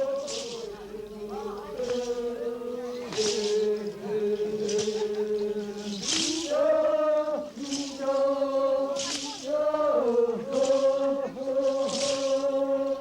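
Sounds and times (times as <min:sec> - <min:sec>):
men chanting in unison: 0:00.0 - 0:13.0
rattle shaken in a beat: 0:00.0 - 0:13.0.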